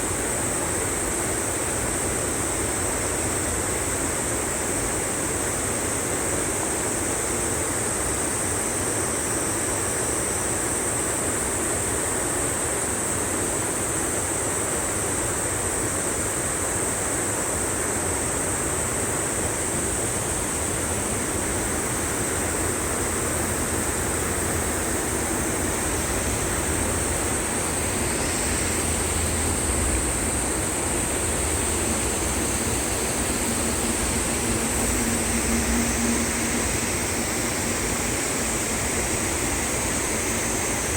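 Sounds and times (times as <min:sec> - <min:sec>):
high-pitched hiss: 0:00.0 - 0:40.9
stream water rushing: 0:00.0 - 0:40.9.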